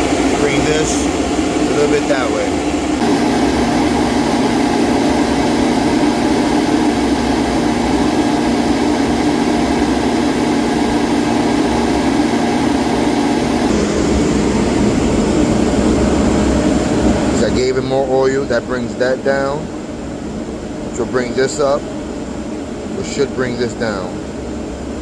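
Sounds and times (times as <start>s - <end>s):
oil boiler burner drone: 0.0s - 25.0s.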